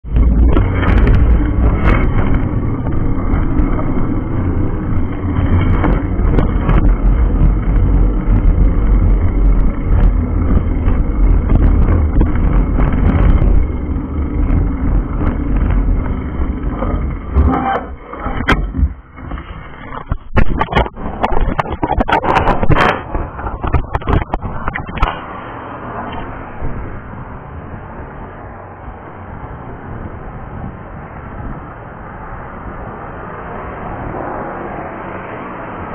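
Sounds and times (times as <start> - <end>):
road traffic rumble: 0.0 - 35.9
wind on microphone: 0.0 - 35.9.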